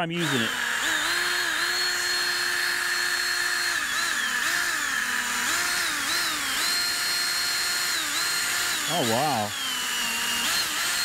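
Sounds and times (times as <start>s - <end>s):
drill motor whine: 0.0s - 11.0s.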